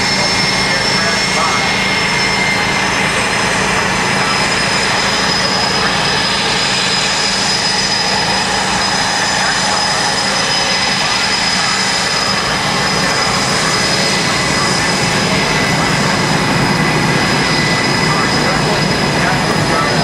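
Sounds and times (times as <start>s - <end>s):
high whine: 0.0s - 20.0s
jet engines running: 0.0s - 20.0s.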